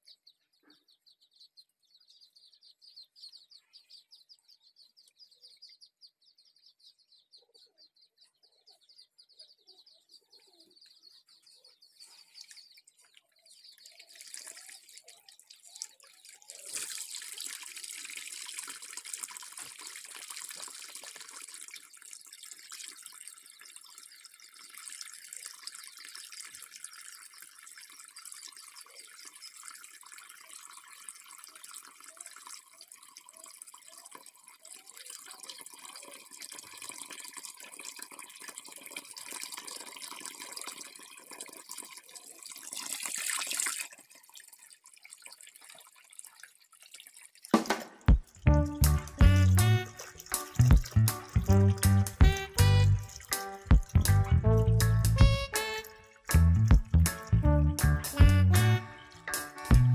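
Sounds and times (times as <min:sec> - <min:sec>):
small birds chirping: 0:00.0 - 0:17.9, 0:19.9 - 0:42.3, 0:48.1 - 0:57.4
hose water splashing into pond: 0:11.0 - 0:59.9.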